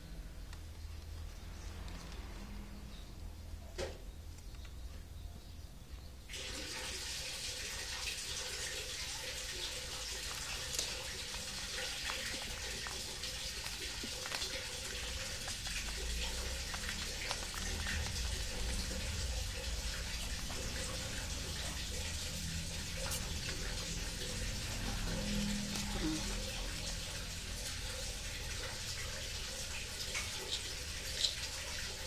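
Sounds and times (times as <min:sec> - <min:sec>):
steady hiss like running water: 0:06.3 - 0:32.0.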